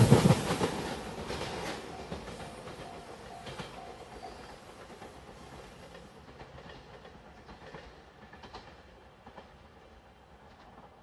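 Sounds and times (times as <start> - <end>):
clacks over rail joints: 0.0 - 9.7
train wheel-on-rail noise: 0.0 - 11.0.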